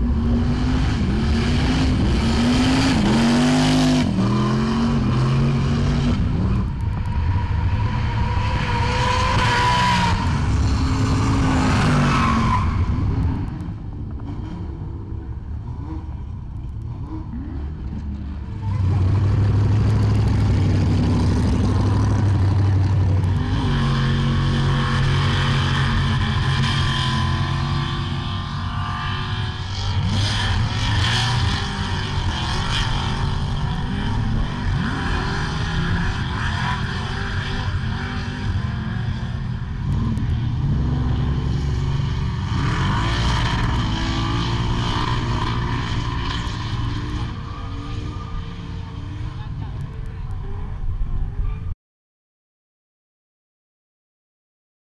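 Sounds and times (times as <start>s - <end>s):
car engines revving hard: 0.0s - 50.2s
car engine rumbling at low revs: 0.0s - 51.7s.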